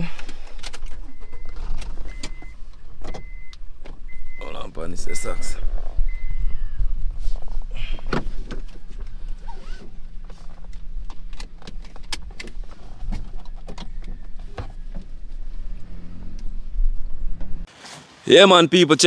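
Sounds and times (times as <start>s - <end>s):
bus engine droning: 0.0s - 17.7s.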